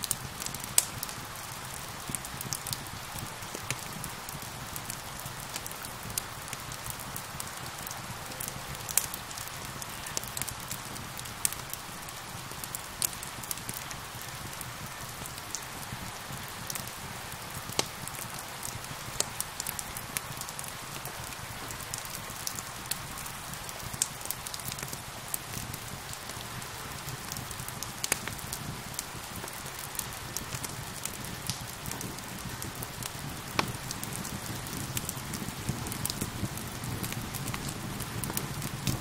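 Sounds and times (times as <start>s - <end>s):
steady rain: 0.0s - 39.0s
wood fire crackling: 0.0s - 39.0s.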